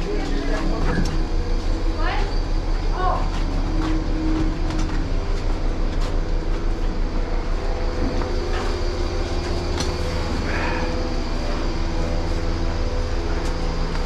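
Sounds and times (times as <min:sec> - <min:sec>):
feed wagon motor hum: 0:00.0 - 0:14.0.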